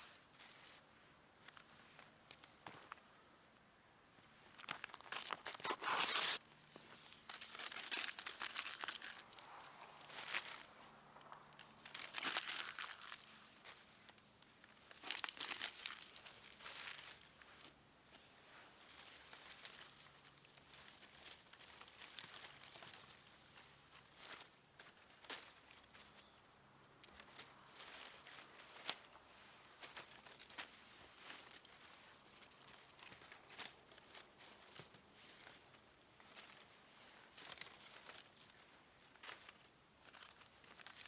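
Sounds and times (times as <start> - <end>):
crinkling and rustling: 1.4 - 3.1, 4.3 - 41.0.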